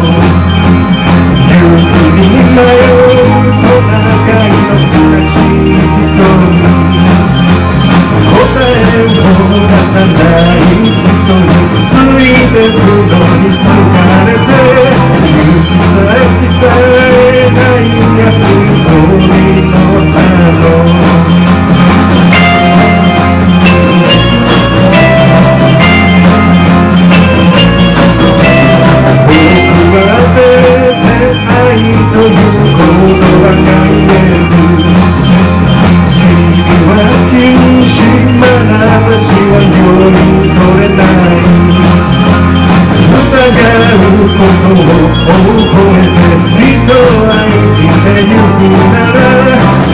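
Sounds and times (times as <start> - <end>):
rock band instrumental: 0.0 - 49.9.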